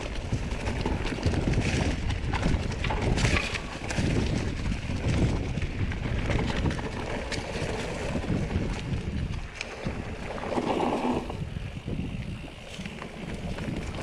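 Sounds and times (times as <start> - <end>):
bike clicks and rattles: 0.0 - 14.0
tyres rumbling on trail: 0.0 - 14.0
wind buffeting microphone: 0.0 - 14.0.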